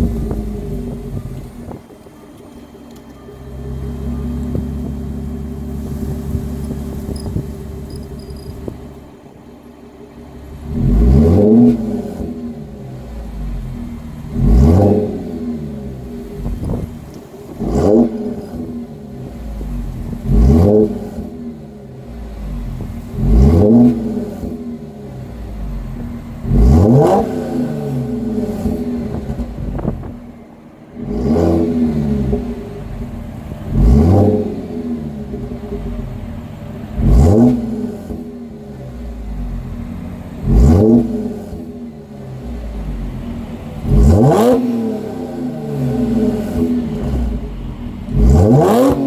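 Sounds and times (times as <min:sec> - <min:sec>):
car engine revving and idling: 0:00.0 - 0:49.0.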